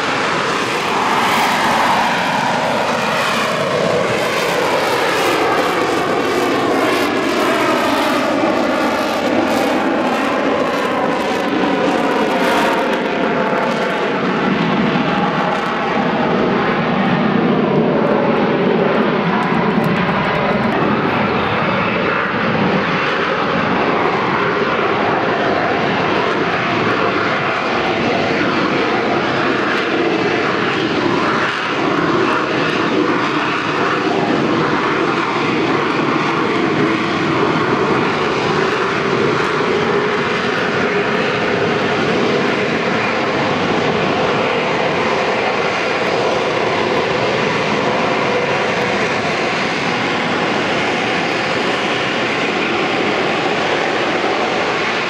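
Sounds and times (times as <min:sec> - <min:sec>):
jet engine roaring: 0:00.0 - 0:55.0.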